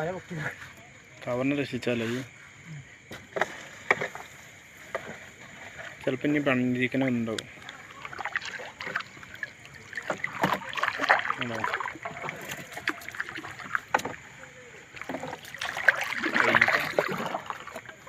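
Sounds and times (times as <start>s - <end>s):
water dripping and splashing: 3.4s - 18.0s.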